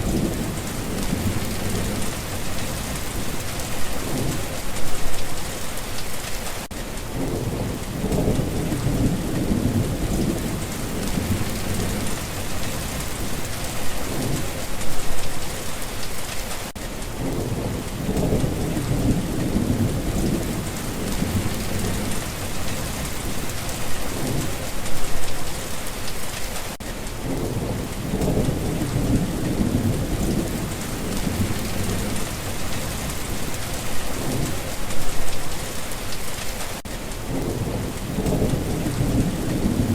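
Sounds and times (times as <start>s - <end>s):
thunder rumbling: 0.0s - 6.2s, 7.0s - 15.7s, 17.1s - 25.6s, 27.2s - 36.0s, 37.2s - 39.9s
steady rain hissing: 0.0s - 39.9s.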